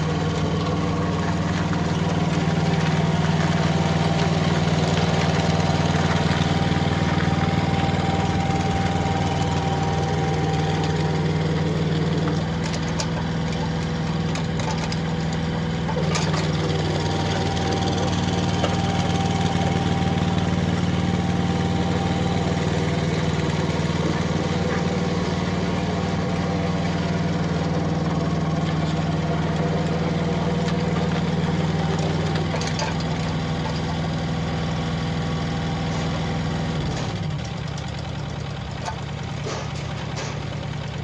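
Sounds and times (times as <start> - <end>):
small diesel engine running: 0.0 - 41.0.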